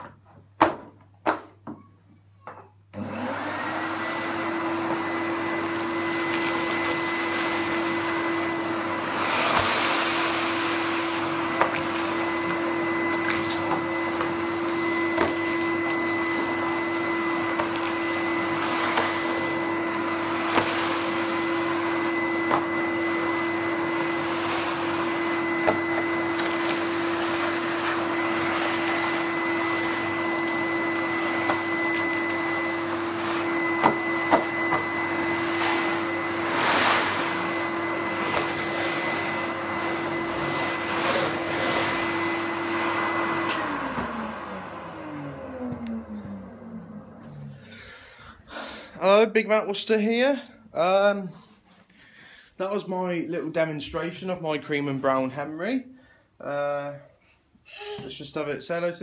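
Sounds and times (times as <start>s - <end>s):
vacuum cleaner motor humming: 2.9s - 50.3s.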